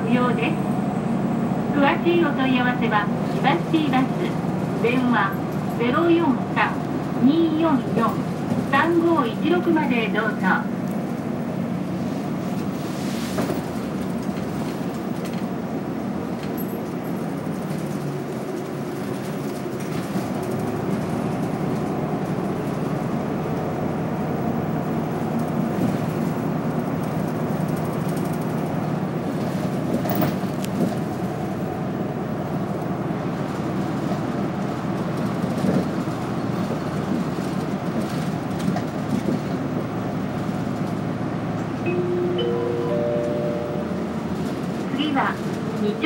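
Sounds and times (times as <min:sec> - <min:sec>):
bus engine hum: 0:00.0 - 0:46.0
road noise: 0:00.0 - 0:46.0.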